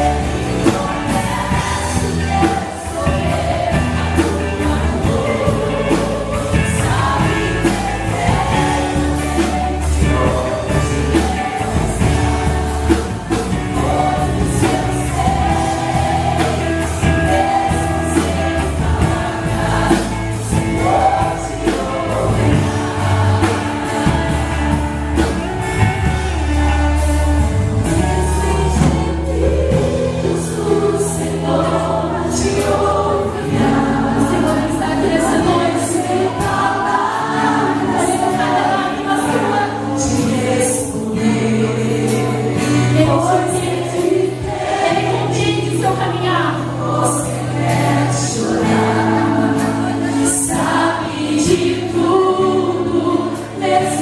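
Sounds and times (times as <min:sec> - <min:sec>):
band with bass and cymbals: 0:00.0 - 0:54.0
choir singing gospel: 0:00.0 - 0:54.0.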